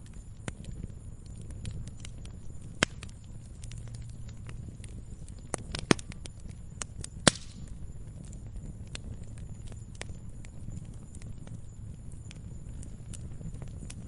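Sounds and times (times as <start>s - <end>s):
campfire crackling and popping: 0.0s - 14.0s
low steady rumble: 0.0s - 14.0s.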